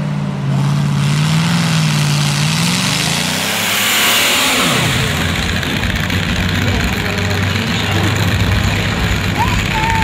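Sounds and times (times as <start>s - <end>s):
tractor engine revving hard: 0.0s - 10.0s.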